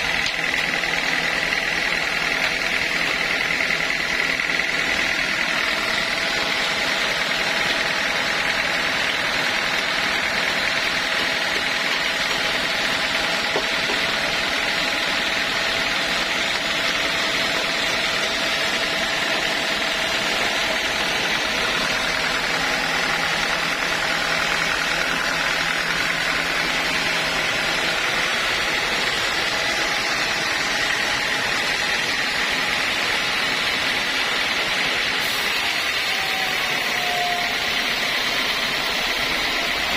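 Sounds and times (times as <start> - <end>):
high mechanical whine: 0.0 - 39.9
sawmill machinery running: 0.0 - 39.9.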